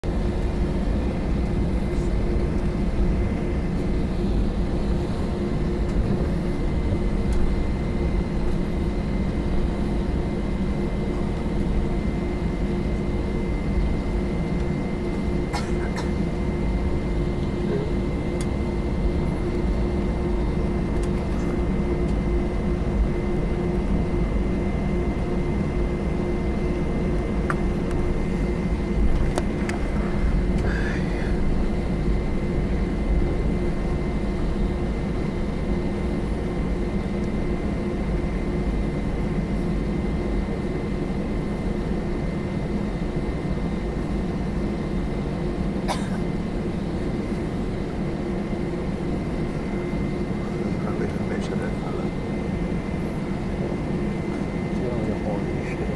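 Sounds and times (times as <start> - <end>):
airplane cabin rumble: 0.0 - 55.9
thin steady whine: 0.1 - 55.9.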